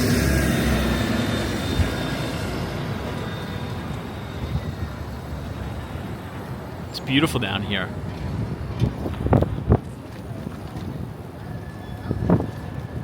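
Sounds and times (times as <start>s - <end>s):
passing vehicle rumble: 0.0s - 13.0s.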